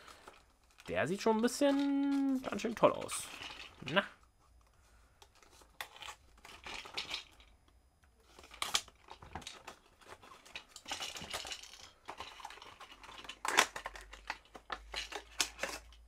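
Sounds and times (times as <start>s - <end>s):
plastic crinkling: 0.0s - 7.6s, 8.2s - 16.0s.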